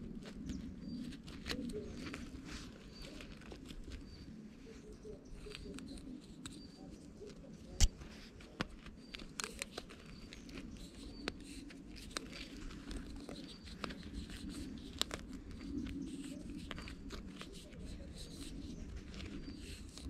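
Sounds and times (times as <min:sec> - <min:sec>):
hands tearing and squeezing bread: 0:00.0 - 0:20.0.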